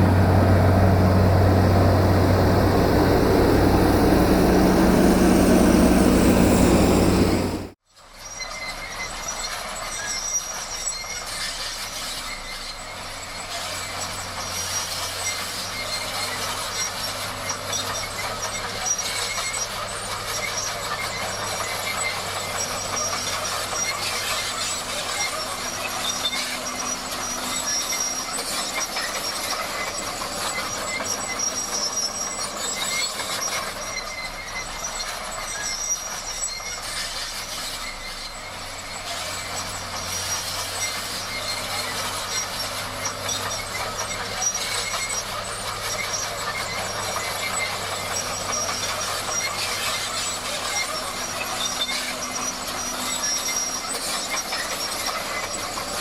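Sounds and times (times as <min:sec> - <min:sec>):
bulldozer engine: 0:00.0 - 0:07.8, 0:11.1 - 0:56.0
crawler tracks clattering and squealing: 0:00.0 - 0:07.8, 0:09.3 - 0:56.0.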